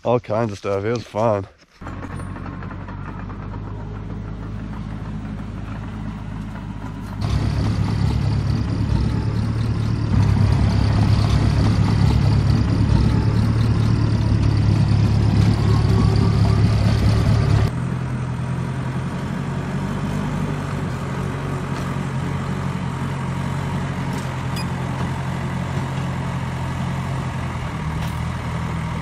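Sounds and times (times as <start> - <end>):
bulldozer diesel engine: 0.7 - 29.0
steady engine hum: 1.8 - 29.0.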